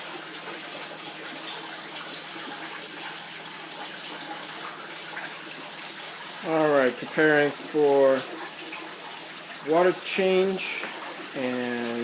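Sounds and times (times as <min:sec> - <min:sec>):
aquarium water splashing: 0:00.0 - 0:12.0.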